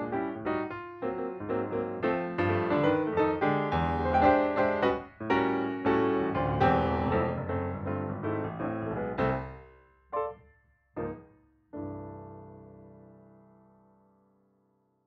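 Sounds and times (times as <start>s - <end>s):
piano music: 0.0s - 14.1s.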